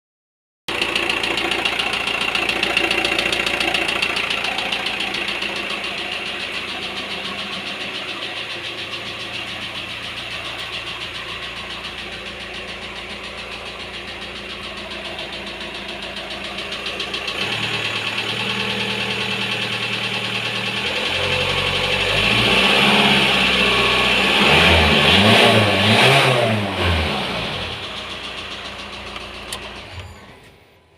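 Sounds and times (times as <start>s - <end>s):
van engine knocking: 0.7s - 24.2s, 27.8s - 29.8s.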